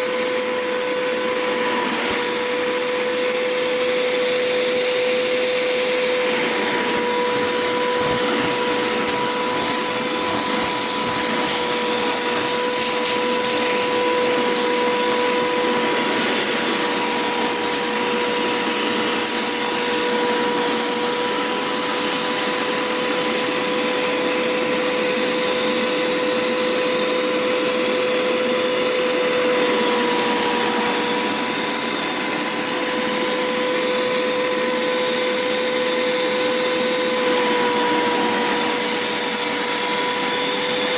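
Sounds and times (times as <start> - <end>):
carpet cleaner motor whine: 0.0 - 40.9.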